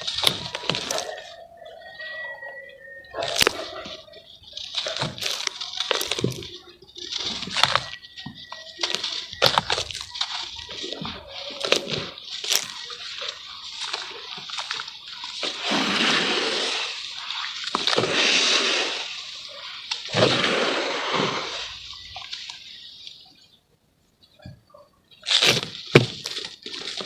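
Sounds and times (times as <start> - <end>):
water sloshing and splashing: 0.0 - 22.9
charcoal crackling in water: 0.0 - 23.1, 25.1 - 27.0.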